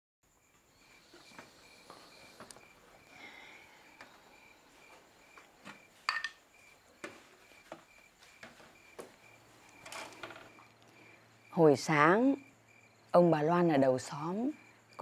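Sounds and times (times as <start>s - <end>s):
cricket chirping: 0.2s - 15.0s.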